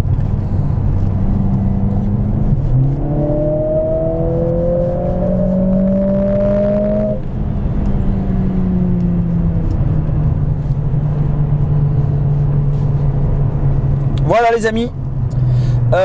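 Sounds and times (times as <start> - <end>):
car engine revving: 0.0 - 16.0
road noise: 0.0 - 16.0.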